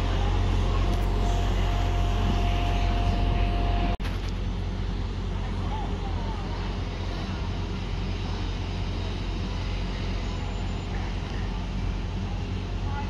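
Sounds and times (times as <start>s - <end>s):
diesel train engine droning: 0.0s - 13.0s.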